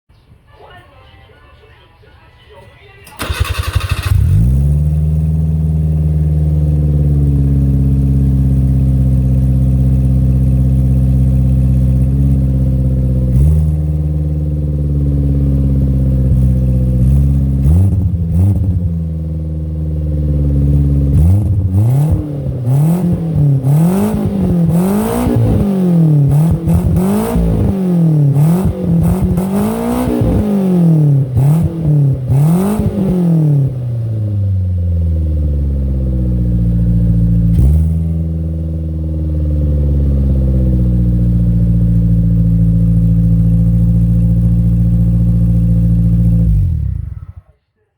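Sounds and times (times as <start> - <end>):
car engine idling and revving: 3.2 - 47.5.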